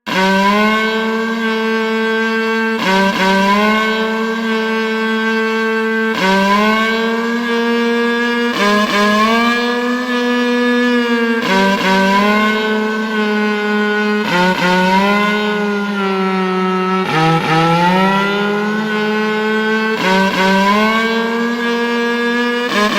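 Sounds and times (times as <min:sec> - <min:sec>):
cow horn blasts: 0:00.0 - 0:21.2.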